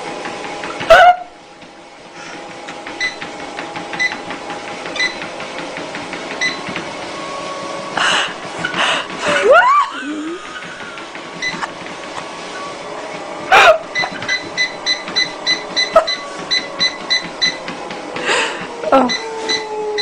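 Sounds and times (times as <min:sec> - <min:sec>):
treadmill belt ticking: 0:00.0 - 0:20.0
treadmill motor hum: 0:00.0 - 0:20.0.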